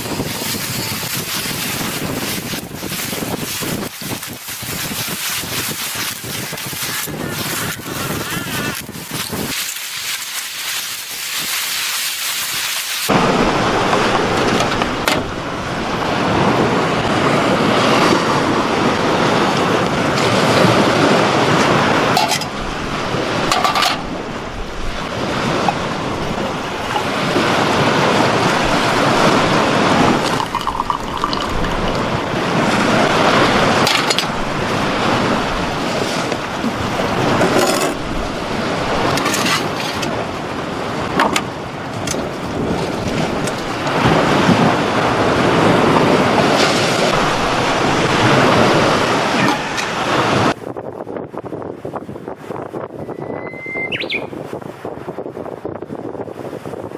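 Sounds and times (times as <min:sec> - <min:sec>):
wind buffeting microphone: 0:00.0 - 0:11.8, 0:12.4 - 0:56.9.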